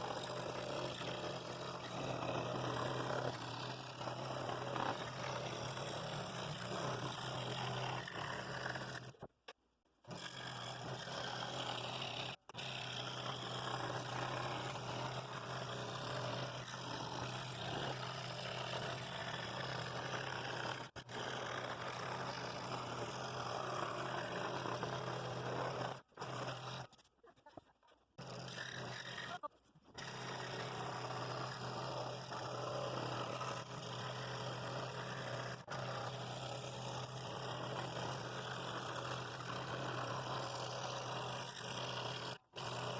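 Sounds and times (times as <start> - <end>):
scroll saw rasping buzz: 0.0 - 9.3, 10.0 - 42.9.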